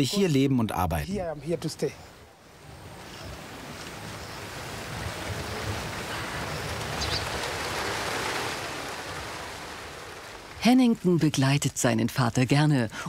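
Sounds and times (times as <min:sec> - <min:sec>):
wind rustling large leaves: 0:00.0 - 0:12.9.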